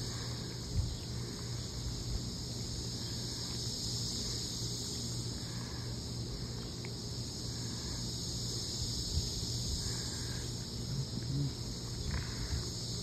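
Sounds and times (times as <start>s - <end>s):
insects buzzing drone: 0.0s - 13.0s.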